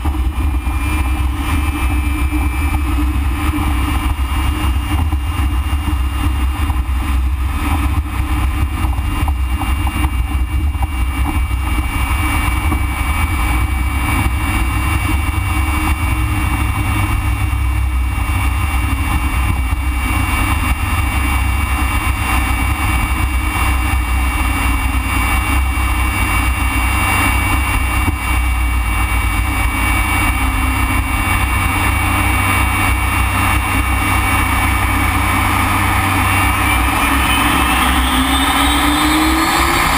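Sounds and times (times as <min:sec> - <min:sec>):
jet engine rumble with whine: 0:00.0 - 0:39.9.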